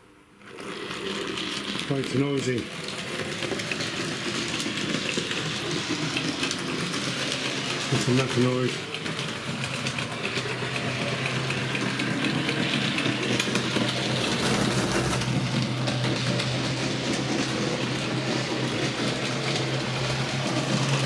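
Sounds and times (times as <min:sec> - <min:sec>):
model train motor whirring: 0:00.6 - 0:21.0
wheels clicking on track: 0:00.6 - 0:21.0.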